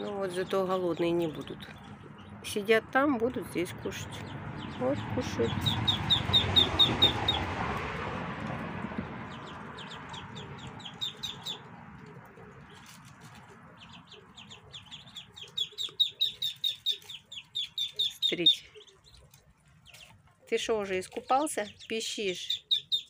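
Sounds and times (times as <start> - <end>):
ducklings peeping: 0.0 - 7.6, 8.4 - 23.0.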